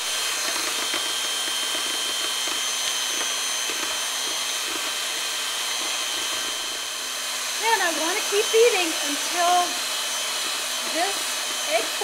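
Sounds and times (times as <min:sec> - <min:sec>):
electric mixer whining: 0:00.0 - 0:12.0.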